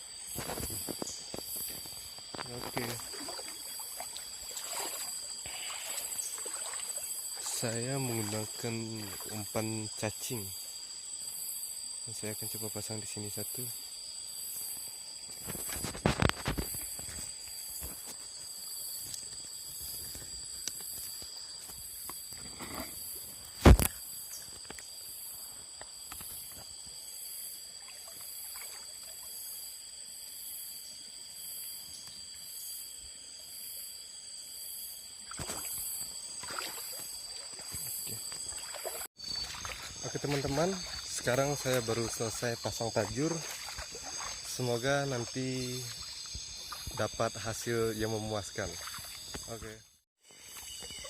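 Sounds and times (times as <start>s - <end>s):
night insects chirring: 0.0s - 51.0s.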